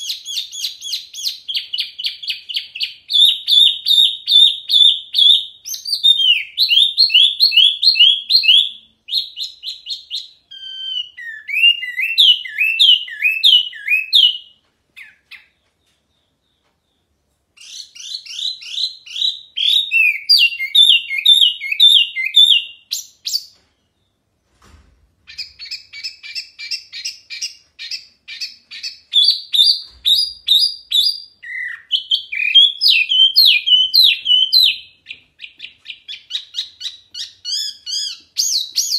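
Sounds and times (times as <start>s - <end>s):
songbird singing: 0.0s - 24.3s, 25.3s - 38.9s.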